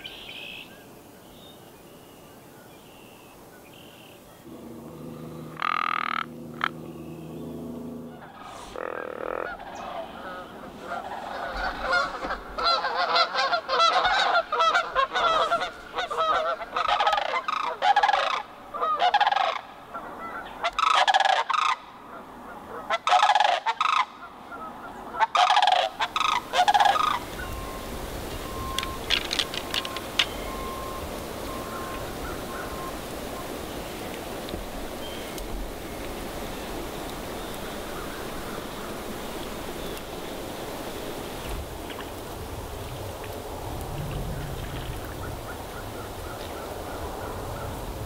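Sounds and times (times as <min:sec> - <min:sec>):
cranes calling: 0:03.6 - 0:42.2, 0:44.4 - 0:48.0.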